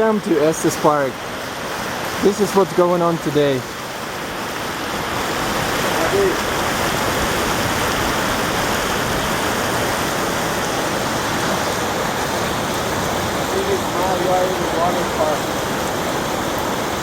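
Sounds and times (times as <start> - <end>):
river floodwater rushing: 0.0 - 17.0.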